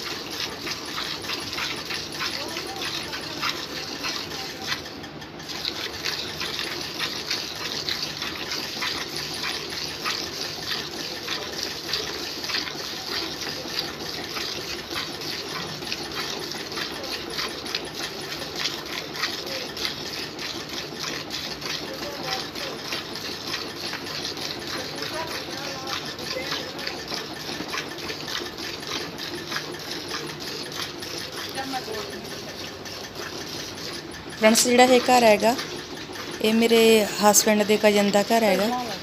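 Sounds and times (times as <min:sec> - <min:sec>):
milk squirting into bucket: 0:00.0 - 0:39.0.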